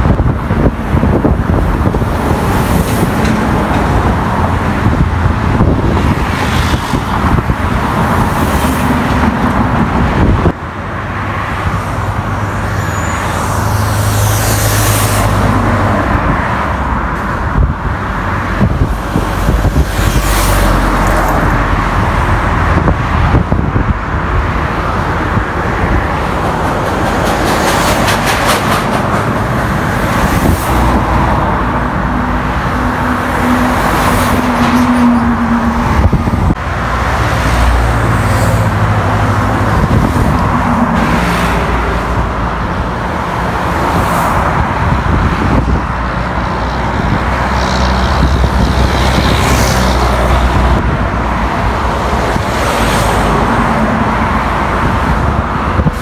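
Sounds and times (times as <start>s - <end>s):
truck engines droning: 0.0s - 56.0s.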